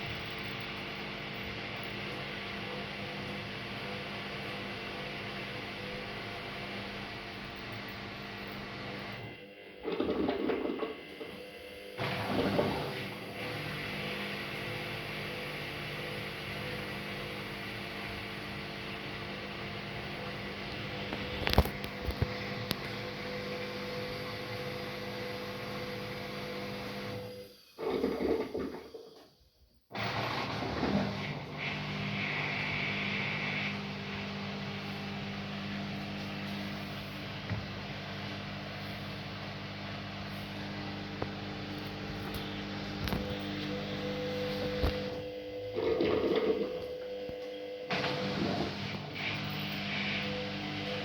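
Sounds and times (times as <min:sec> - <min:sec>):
washing machine running: 0:00.0 - 0:29.1, 0:29.9 - 0:51.0.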